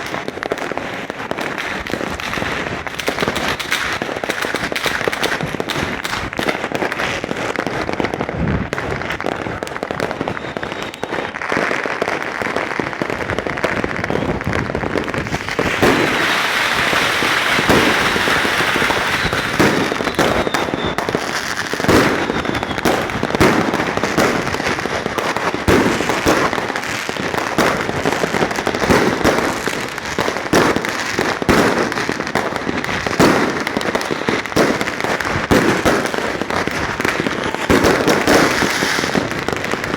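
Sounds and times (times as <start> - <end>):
continuous firecracker crackle: 0.0 - 39.9
fireworks and firecrackers banging: 0.0 - 39.9.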